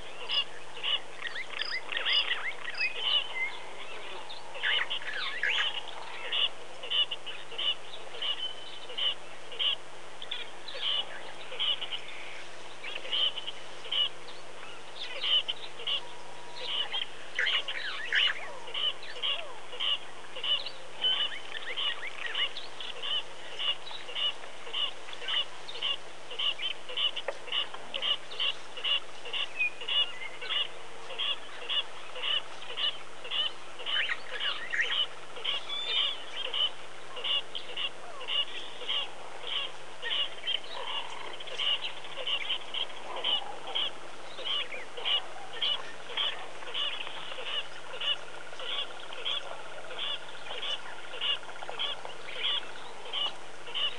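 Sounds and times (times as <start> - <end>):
other birds calling: 0.0 - 53.9.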